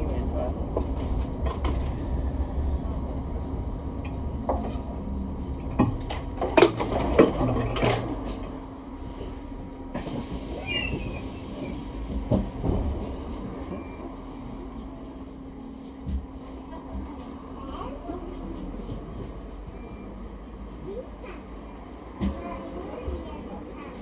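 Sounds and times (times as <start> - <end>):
bus interior rumble: 0.0 - 24.0.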